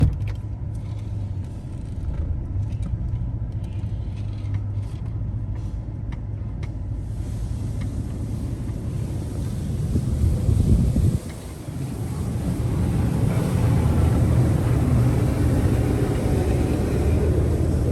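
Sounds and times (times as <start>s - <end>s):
car engine low rumble: 0.0s - 17.9s.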